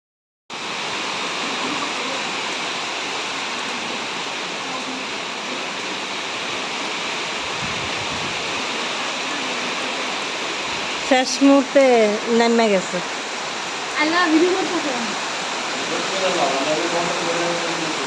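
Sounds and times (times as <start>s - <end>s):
heavy rain pouring: 0.5s - 18.0s.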